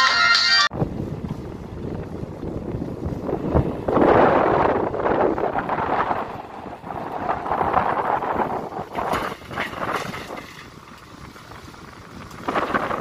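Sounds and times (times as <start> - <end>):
wind buffeting microphone: 0.7 - 13.0.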